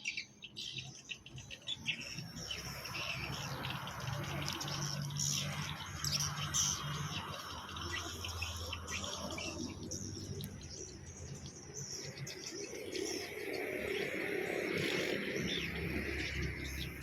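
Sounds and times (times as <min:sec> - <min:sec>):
swiftlets chirping and twittering: 0:00.0 - 0:17.0.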